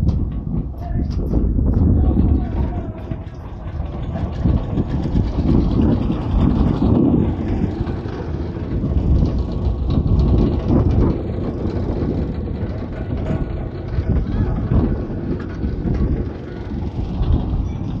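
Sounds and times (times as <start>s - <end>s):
construction machinery engine running: 0.0s - 18.0s.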